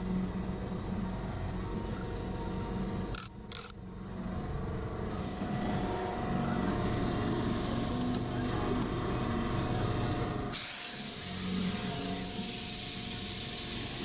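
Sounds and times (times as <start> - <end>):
low mechanical motor hum: 0.0 - 14.0.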